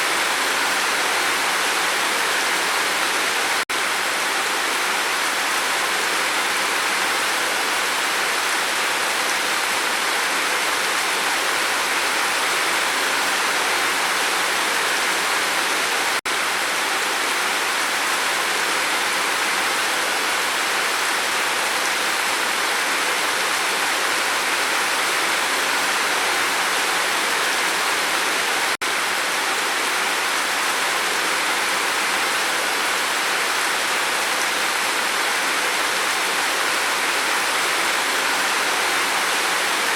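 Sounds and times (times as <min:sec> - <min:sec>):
dense rain on a roof: 0:00.0 - 0:39.9.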